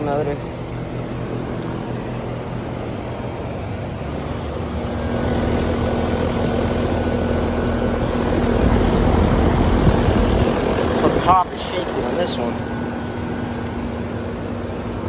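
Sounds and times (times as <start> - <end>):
air conditioner units humming: 0.0 - 15.0
low hum: 0.0 - 15.0.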